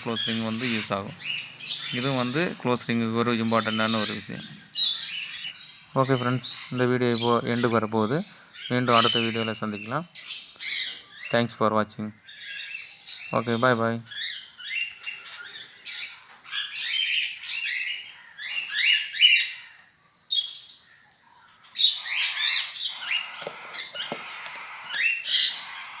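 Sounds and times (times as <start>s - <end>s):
parrots squawking and chirping: 0.0s - 26.0s.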